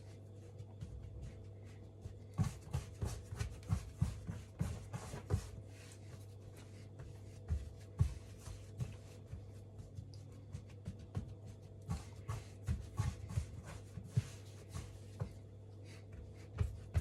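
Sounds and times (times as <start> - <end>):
hands kneading dough: 0.0 - 17.0.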